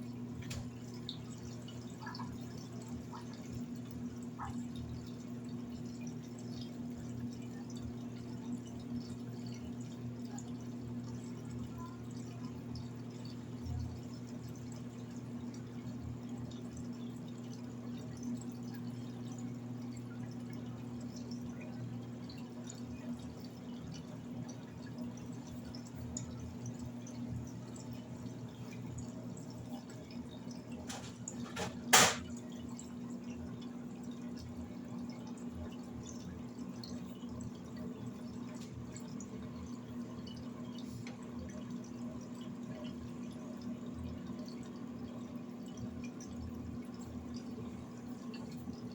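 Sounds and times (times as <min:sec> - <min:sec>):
washing machine humming: 0:00.0 - 0:48.9
water dripping and trickling: 0:00.0 - 0:48.9.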